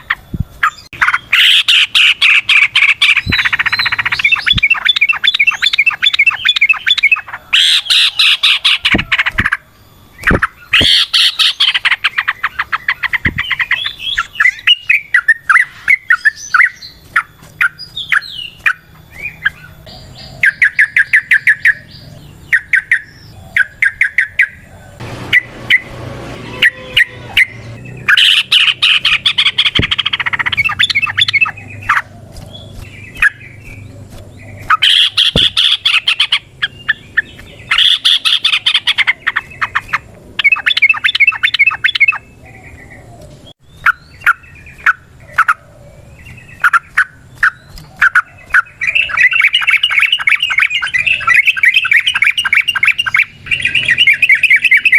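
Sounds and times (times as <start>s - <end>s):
bird singing bubbling song: 0.0s - 25.9s, 26.6s - 54.9s.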